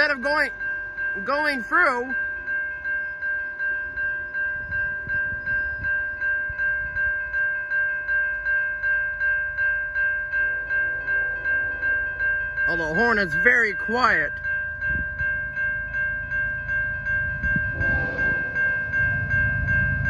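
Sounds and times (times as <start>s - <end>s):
railroad crossing bell ringing: 0.0s - 20.0s.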